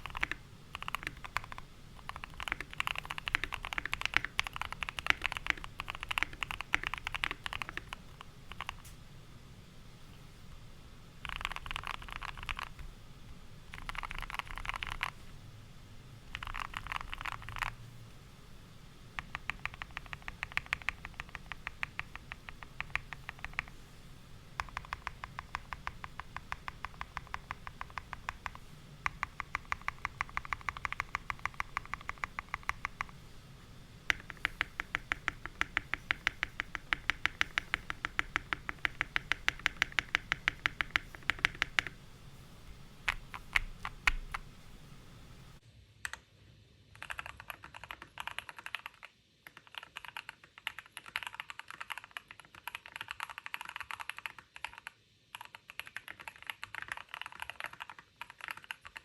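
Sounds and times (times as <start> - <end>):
mechanical keyboard typing: 0.0 - 8.9, 11.2 - 12.9, 13.7 - 15.2, 16.3 - 17.8, 19.2 - 23.8, 24.6 - 33.2, 34.1 - 42.0, 43.1 - 44.5, 47.0 - 59.0.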